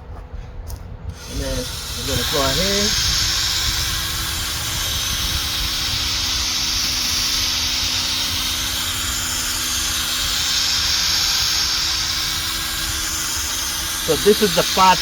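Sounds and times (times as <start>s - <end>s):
drill motor whir: 1.1s - 15.0s
sanding hiss: 1.2s - 15.0s.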